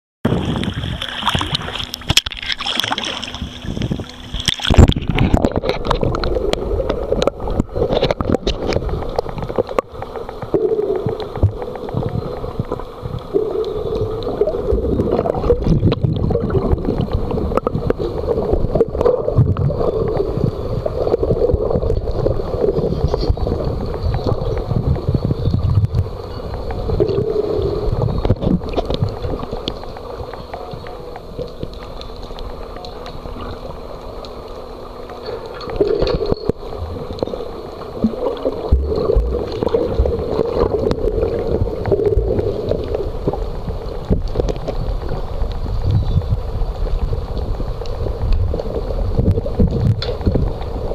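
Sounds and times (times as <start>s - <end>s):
faint steady hum: 0.3s - 50.9s
underwater gurgling and rumbling: 0.3s - 50.9s.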